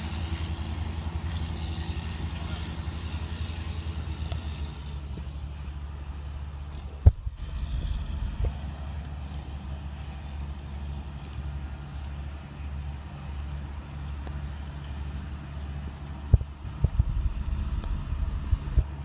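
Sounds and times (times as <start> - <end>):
tractor engine rumbling: 0.0 - 19.0.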